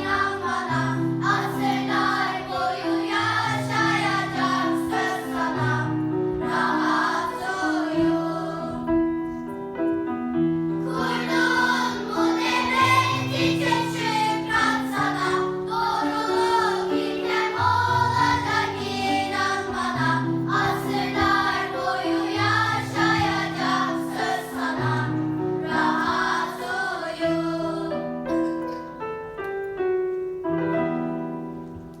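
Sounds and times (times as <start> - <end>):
choir singing: 0.0 - 9.1, 10.8 - 28.2
piano: 0.0 - 32.0.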